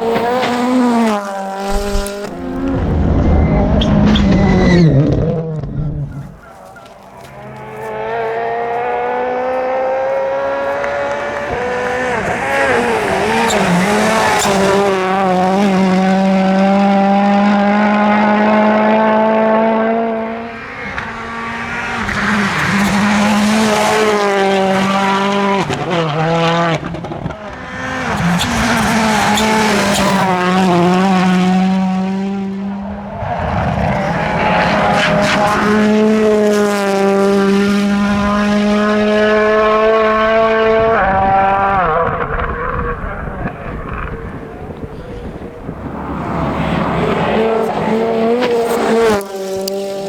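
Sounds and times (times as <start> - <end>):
rally car engines revving: 0.0 - 50.0.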